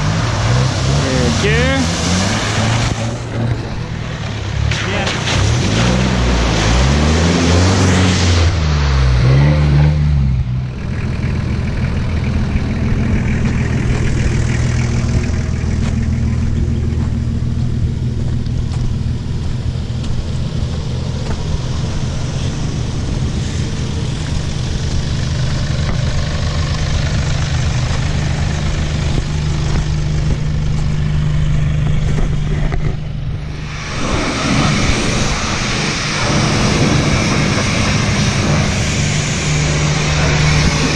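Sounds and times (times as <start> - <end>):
engine revving and droning: 0.0 - 40.9.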